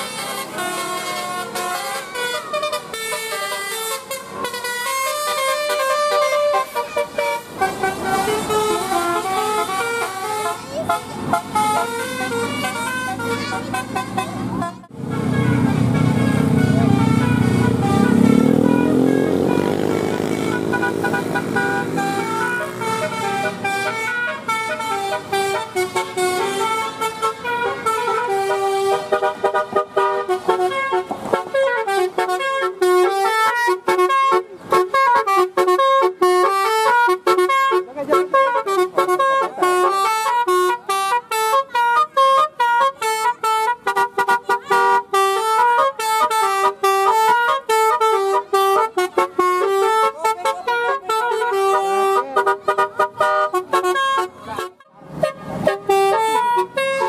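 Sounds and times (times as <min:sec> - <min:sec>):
musical horn playing tune: 0:00.0 - 0:57.0.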